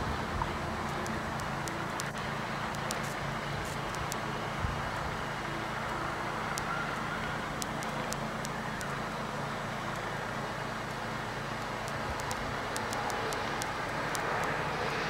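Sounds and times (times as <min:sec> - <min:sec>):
faint ticks: 0:00.0 - 0:05.1, 0:05.8 - 0:09.2, 0:09.8 - 0:15.0
camcorder hiss: 0:00.0 - 0:15.0
low hum: 0:00.0 - 0:15.0.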